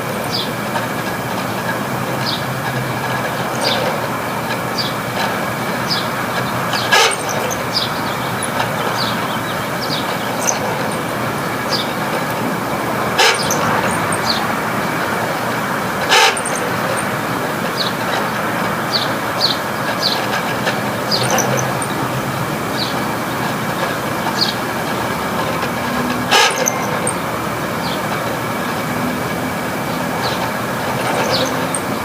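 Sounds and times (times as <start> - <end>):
air conditioner rushing and humming: 0.0 - 32.0
short high squeaks: 1.7 - 18.3, 18.9 - 22.1, 22.7 - 28.2, 30.1 - 32.0.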